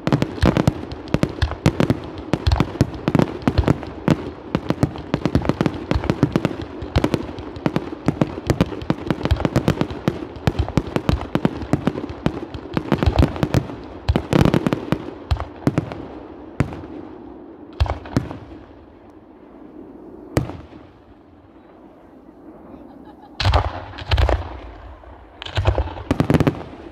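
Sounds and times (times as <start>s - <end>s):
fireworks bangs and crackle: 0.0s - 21.8s, 23.2s - 26.9s.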